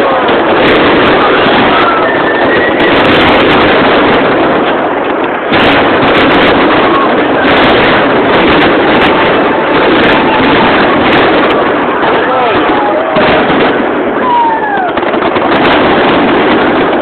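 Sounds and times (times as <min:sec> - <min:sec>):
crowd: 0:00.0 - 0:17.0
fireworks going off: 0:00.0 - 0:17.0.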